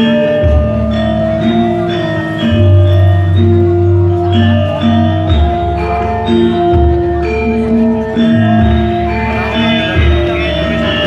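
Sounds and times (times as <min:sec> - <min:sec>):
deep held low tones: 0:00.0 - 0:11.0
gamelan metallophone melody: 0:00.0 - 0:11.0.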